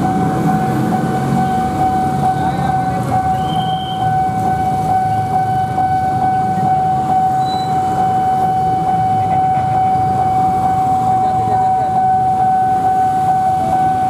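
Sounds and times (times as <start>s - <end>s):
level crossing warning alarm: 0.0s - 14.0s
motorcycles and traffic rumble: 0.0s - 14.0s.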